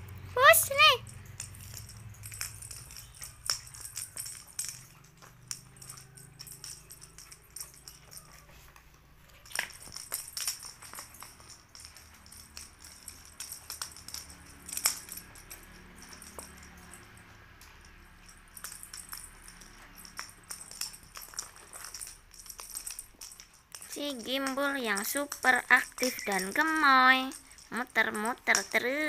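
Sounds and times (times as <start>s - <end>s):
clicks and jingling taps on tiles: 0.0s - 29.0s.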